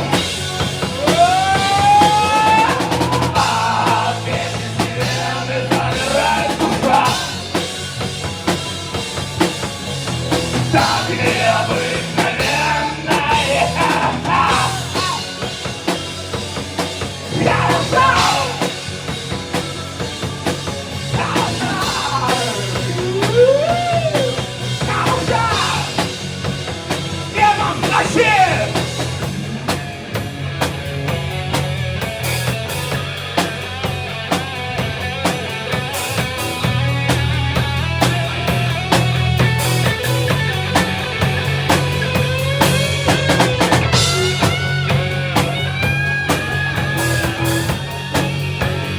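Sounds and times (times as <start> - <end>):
bass guitar: 0.0 - 48.9
drum kit: 0.0 - 48.9
rock band playing live: 0.0 - 48.9.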